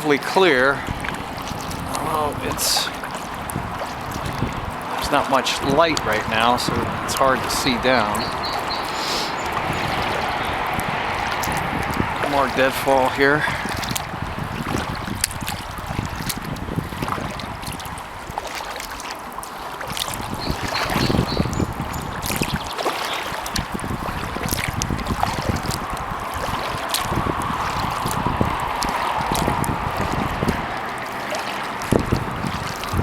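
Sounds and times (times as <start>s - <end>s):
paddle splashing water: 0.0s - 33.0s
wind buffeting microphone: 0.0s - 33.0s.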